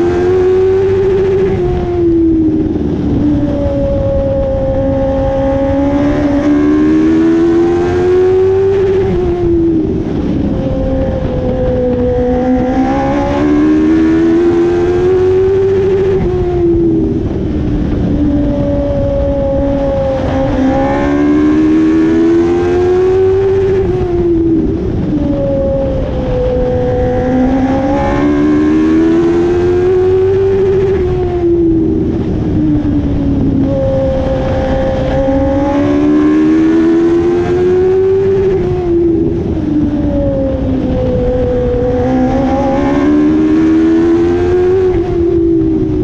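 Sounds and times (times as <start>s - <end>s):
race car engine revving: 0.0s - 46.0s.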